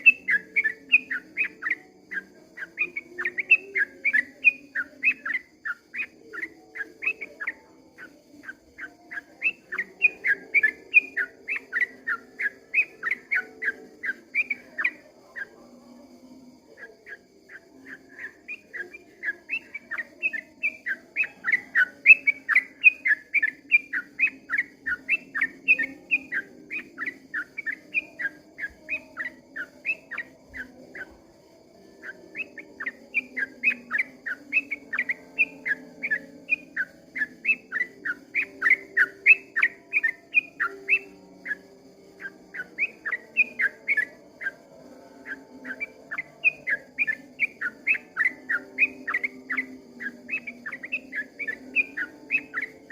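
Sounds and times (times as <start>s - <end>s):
bulbul chirping song: 0.0s - 52.9s.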